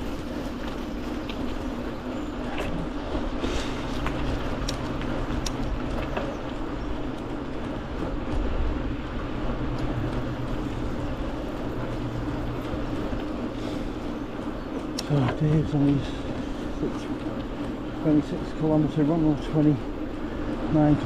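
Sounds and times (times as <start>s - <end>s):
bike clicks and rattles: 0.0s - 21.0s
bike tyres rolling hum: 0.0s - 21.0s.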